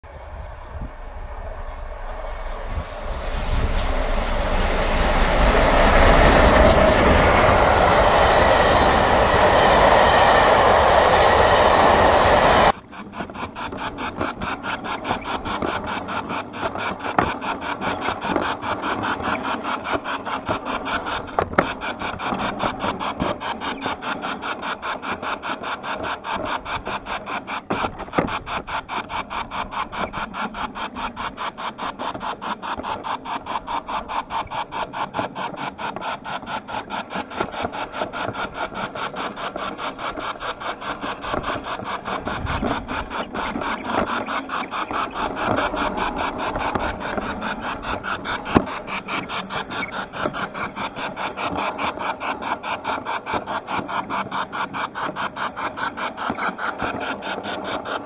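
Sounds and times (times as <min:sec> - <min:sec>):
train passing close: 0:00.0 - 0:58.0
model train rasping clatter: 0:00.1 - 0:58.0.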